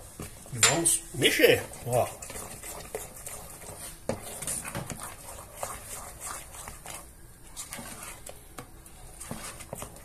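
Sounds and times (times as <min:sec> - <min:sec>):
spatula stirring mashed potato: 0:00.0 - 0:10.0.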